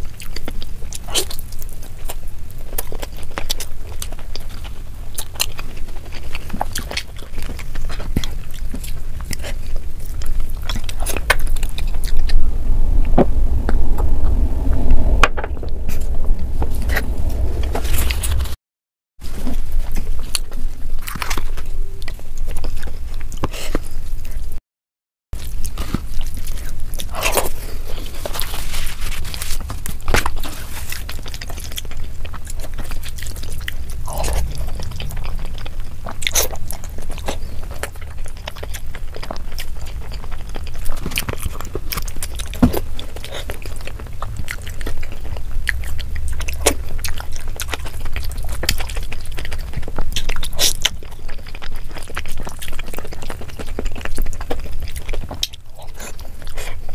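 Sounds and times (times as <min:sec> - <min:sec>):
chewing and mouth clicks: 0:00.0 - 0:13.6, 0:19.4 - 0:24.6, 0:25.4 - 0:56.9.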